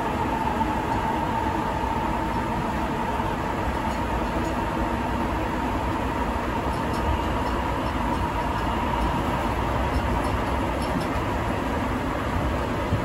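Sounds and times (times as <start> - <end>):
subway car running noise: 0.0 - 13.0.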